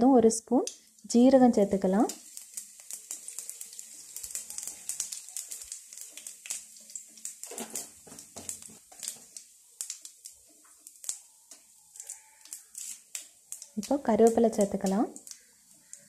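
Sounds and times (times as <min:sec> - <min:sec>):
seeds crackling in hot oil: 0:00.0 - 0:16.0.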